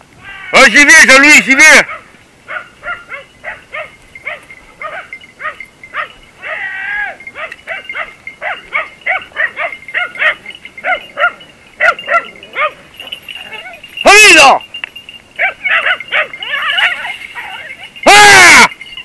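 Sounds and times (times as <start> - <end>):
dogs barking: 1.8 - 14.1, 15.4 - 18.6
dog howling: 1.9 - 13.9, 15.4 - 18.8.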